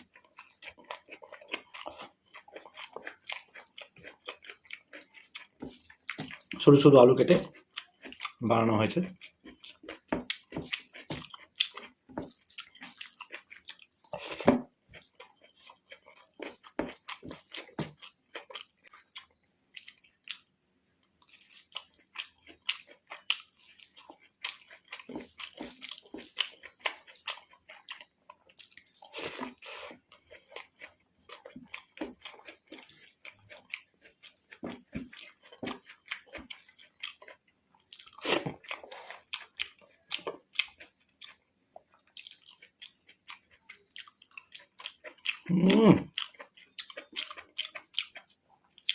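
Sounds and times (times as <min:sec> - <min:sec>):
chewing with wet smacking: 0:00.0 - 0:48.9.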